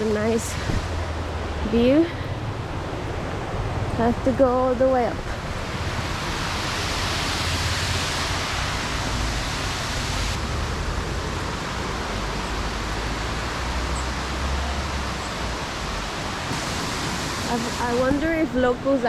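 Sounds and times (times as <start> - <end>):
waterfall roar: 0.0 - 19.0.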